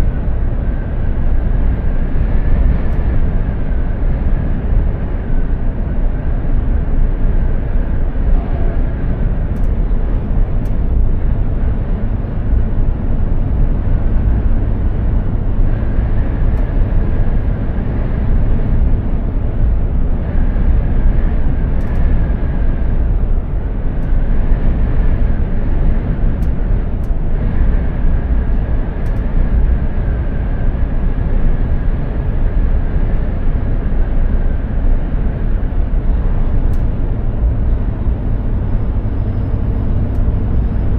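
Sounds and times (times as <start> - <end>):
faint whine: 0.0 - 40.9
truck engine drone: 0.0 - 40.9.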